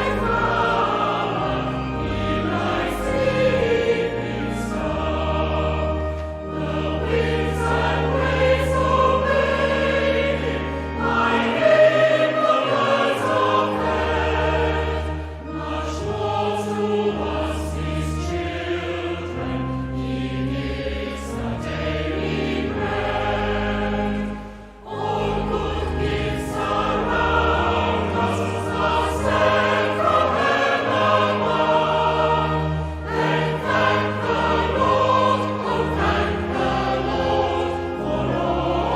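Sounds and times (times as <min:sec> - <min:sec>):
choir singing a hymn: 0:00.0 - 0:38.9
instrumental accompaniment: 0:00.0 - 0:38.9.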